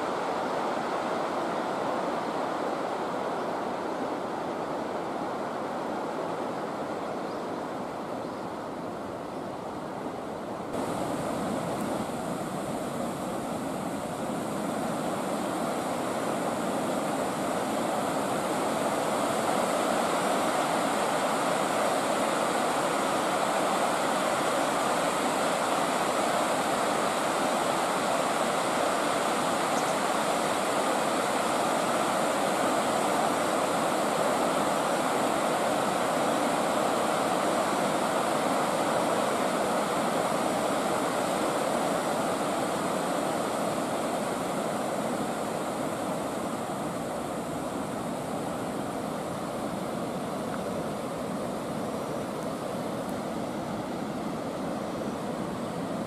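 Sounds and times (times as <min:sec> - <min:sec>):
water rushing over a weir: 0:00.0 - 0:56.0.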